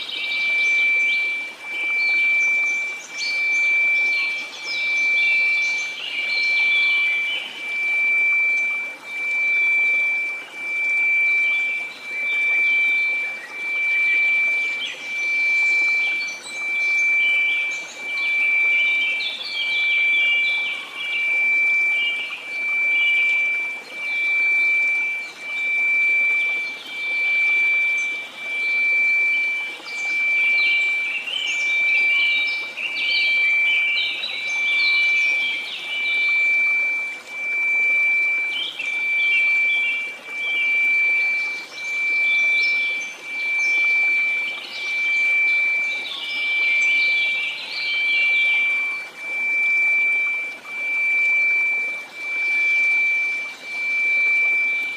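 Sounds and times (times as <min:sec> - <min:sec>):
steady sine tone: 0:00.0 - 0:54.9.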